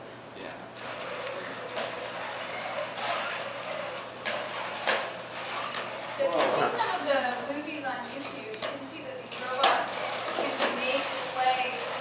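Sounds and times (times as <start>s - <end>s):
robot motor and wheel whirr: 0.8s - 12.0s.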